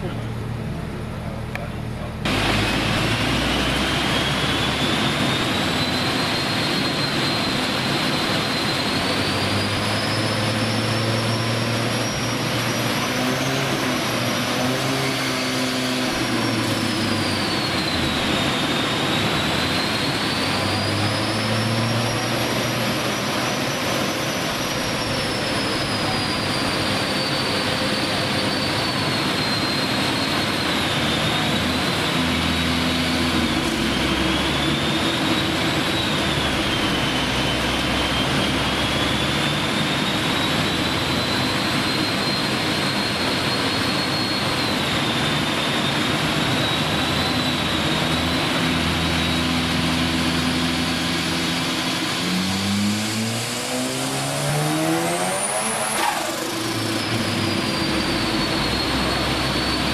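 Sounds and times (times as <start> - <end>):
rotary engine rush with whine: 0.0 - 59.9.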